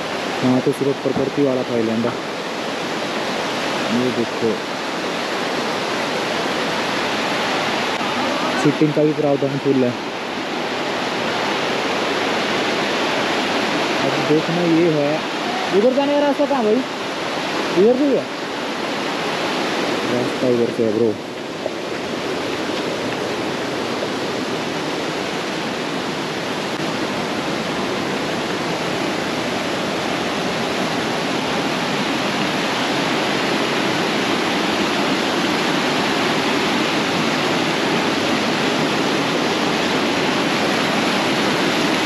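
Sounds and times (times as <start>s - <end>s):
stream rushing over boulders: 0.0s - 42.0s.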